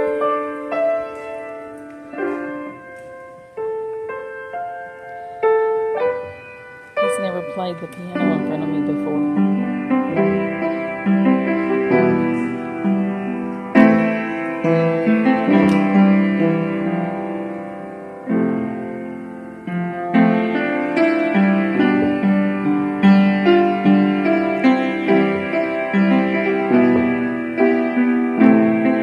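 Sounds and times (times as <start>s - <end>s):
piano playing slow tune: 0.0s - 29.0s.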